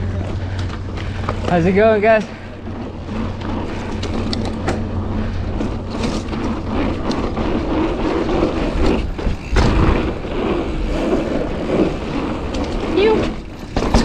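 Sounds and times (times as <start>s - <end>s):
bike tyres on dirt trail: 0.0s - 14.0s
low rumble: 0.0s - 14.0s.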